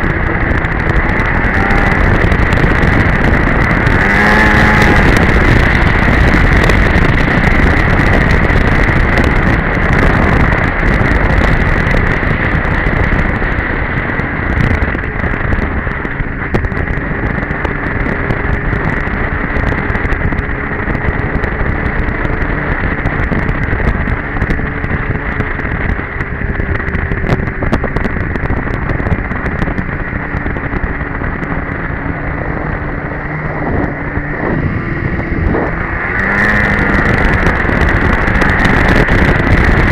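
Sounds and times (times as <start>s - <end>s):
snowmobile engine running: 0.0s - 39.9s
wind buffeting microphone: 0.0s - 39.9s.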